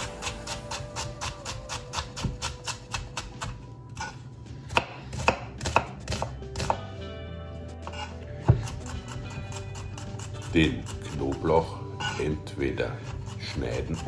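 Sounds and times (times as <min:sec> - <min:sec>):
knife chopping on wooden board: 0:00.0 - 0:06.8, 0:07.9 - 0:12.2, 0:13.0 - 0:14.0.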